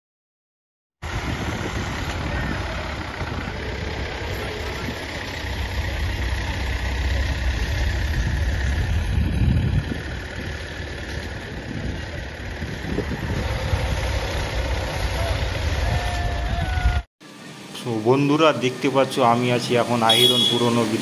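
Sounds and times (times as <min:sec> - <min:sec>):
engine rumbling: 0:01.0 - 0:21.0.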